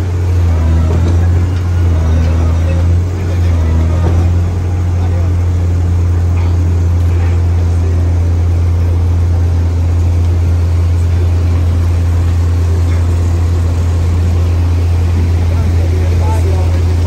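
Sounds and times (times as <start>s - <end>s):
diesel machinery droning: 0.0s - 17.0s.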